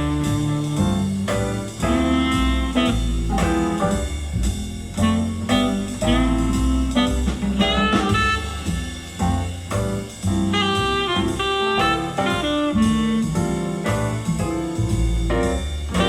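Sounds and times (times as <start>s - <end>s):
jazz with saxophone and walking bass: 0.0s - 16.0s.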